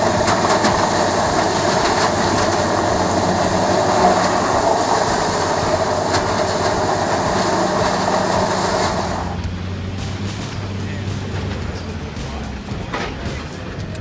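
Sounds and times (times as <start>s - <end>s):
faint high whine: 0.0s - 12.7s
tub grinder mechanical din: 0.0s - 14.0s.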